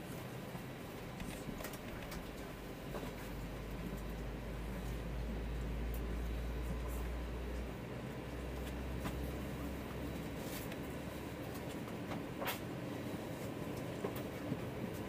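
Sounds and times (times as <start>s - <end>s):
aircraft cabin low hum: 0.0s - 15.0s.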